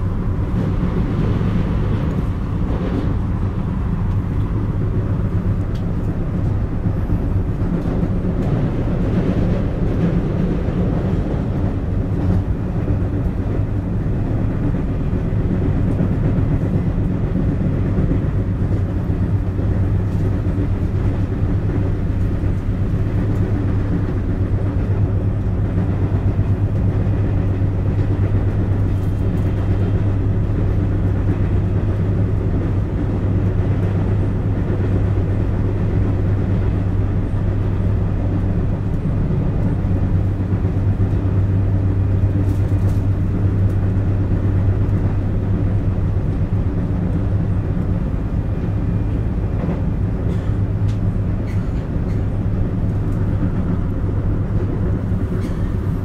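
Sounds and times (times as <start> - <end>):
low motor drone: 0.0 - 56.0
train wheels rumbling on rail: 0.0 - 56.0.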